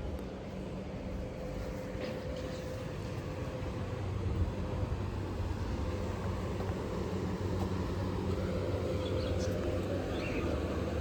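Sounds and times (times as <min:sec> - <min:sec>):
street background noise: 0:00.0 - 0:11.0.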